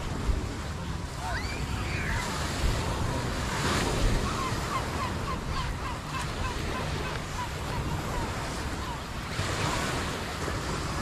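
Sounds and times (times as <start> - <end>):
small waves on beach: 0.0 - 11.0
wind buffeting microphone: 0.0 - 11.0.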